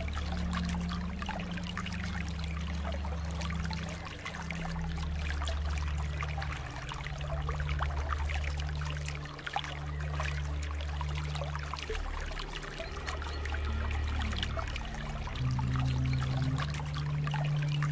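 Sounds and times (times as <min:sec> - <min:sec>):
low hum: 0:00.0 - 0:17.9
water flowing and trickling: 0:00.0 - 0:17.9.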